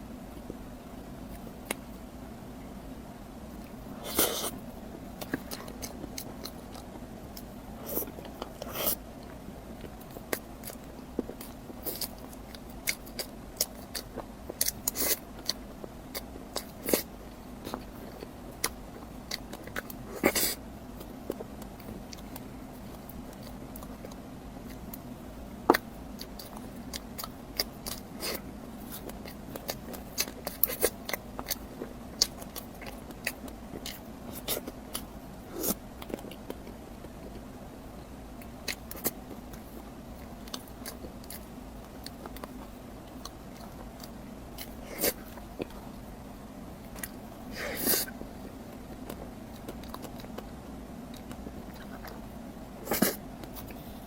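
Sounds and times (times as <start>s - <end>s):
low steady hum: 0.0s - 54.0s
person chewing crunchy food: 3.6s - 37.5s, 38.4s - 46.1s, 46.8s - 54.0s.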